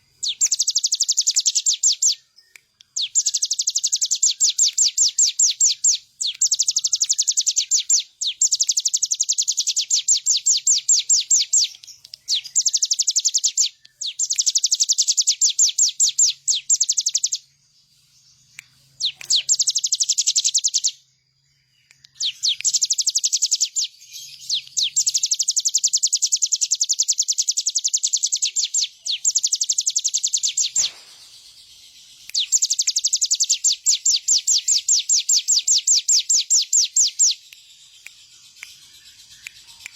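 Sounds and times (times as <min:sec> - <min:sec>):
bird singing rapid high trills: 0:00.0 - 0:39.9.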